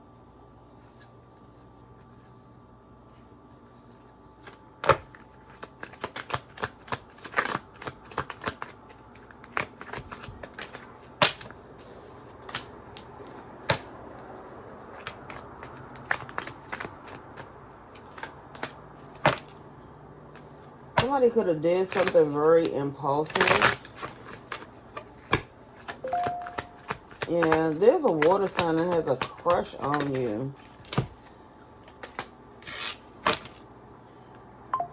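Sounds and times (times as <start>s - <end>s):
cards being shuffled: 3.7s - 14.3s, 14.9s - 19.6s, 20.3s - 33.6s.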